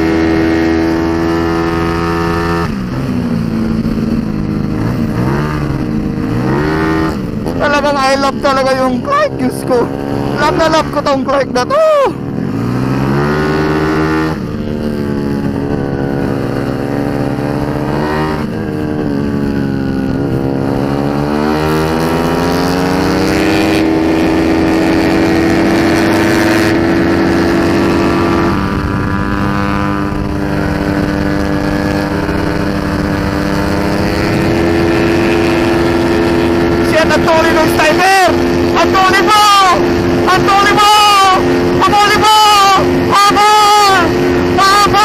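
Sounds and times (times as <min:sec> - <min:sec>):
scooter engine revving: 0:00.0 - 0:45.0
wind rush: 0:00.0 - 0:45.0.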